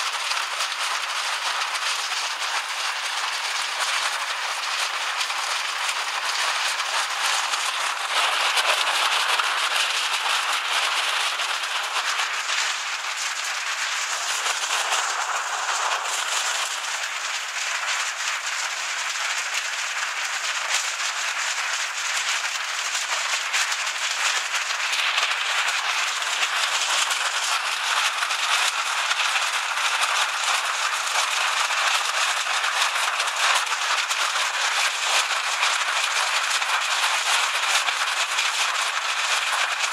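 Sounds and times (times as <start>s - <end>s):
hail and rain on roof: 0.0s - 39.9s.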